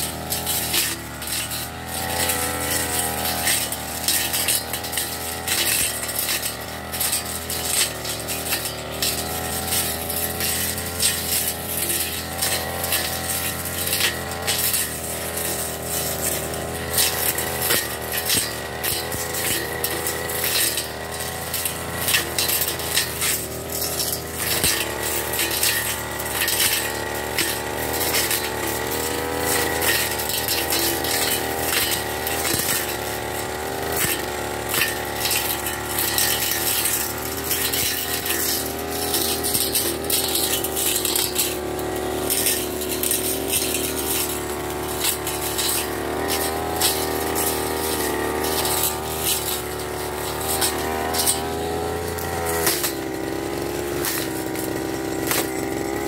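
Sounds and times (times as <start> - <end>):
brush cutter engine running: 0.0 - 56.0
sharp clicks and rattles: 0.0 - 56.0.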